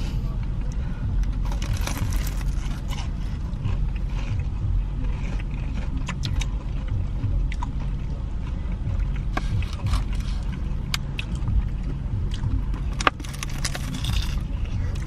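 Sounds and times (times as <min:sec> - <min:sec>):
car cabin engine rumble: 0:00.0 - 0:15.0.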